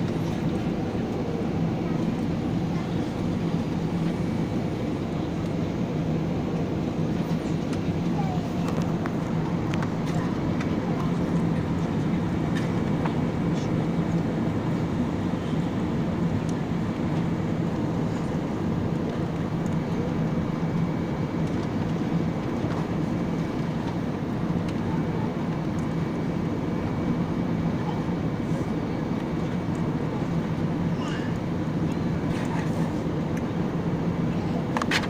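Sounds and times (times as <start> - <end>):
airliner cabin engine drone: 0.0 - 35.0.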